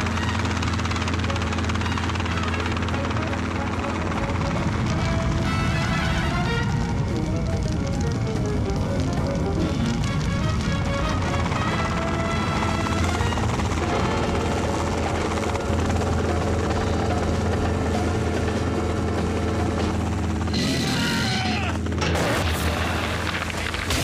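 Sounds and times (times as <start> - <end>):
cartoon helicopter rotor chop: 0.0 - 24.0.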